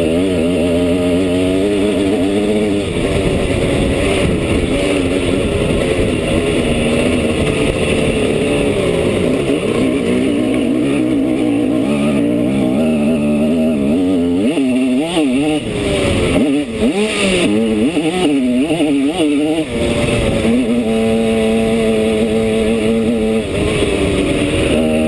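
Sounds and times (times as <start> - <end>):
motorcycle engine revving: 0.0 - 25.0
rough low noise: 0.0 - 25.0.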